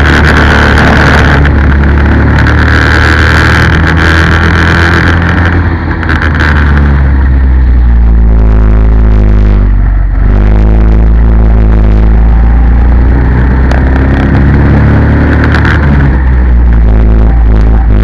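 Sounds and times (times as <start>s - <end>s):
go-kart engine at high revs: 0.0s - 18.0s.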